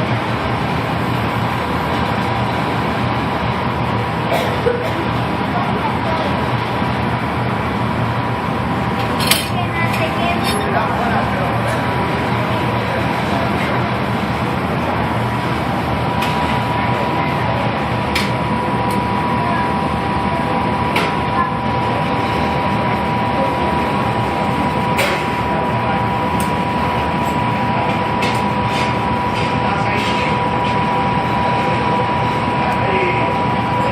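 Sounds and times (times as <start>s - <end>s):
gas burner roaring: 0.0s - 33.9s.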